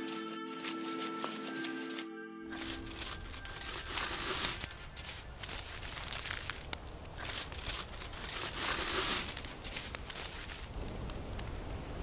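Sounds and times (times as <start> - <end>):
aluminium foil crinkling: 0.1 - 11.6.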